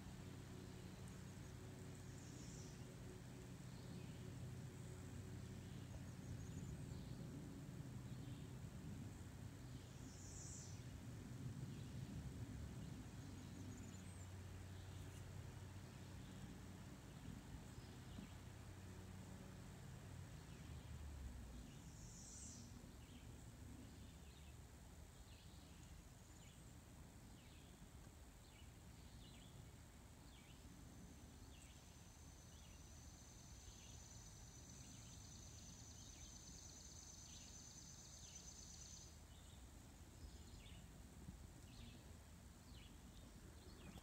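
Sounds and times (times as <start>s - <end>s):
faint high-pitched whine: 0.0s - 44.0s.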